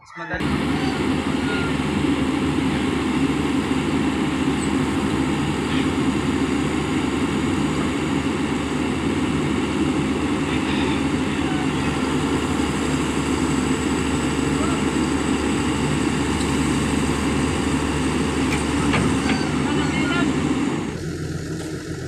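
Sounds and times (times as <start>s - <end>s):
diesel engine idling: 0.4s - 22.0s.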